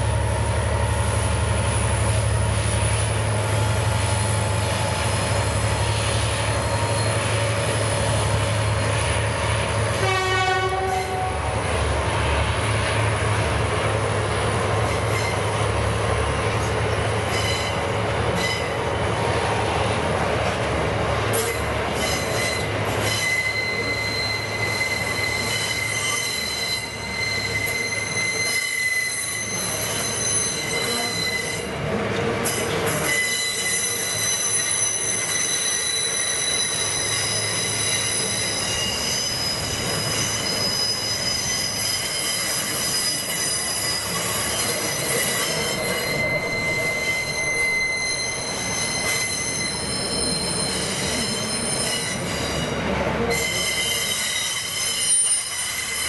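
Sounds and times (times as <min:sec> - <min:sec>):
train wheels squealing on rails: 0:00.0 - 0:56.0.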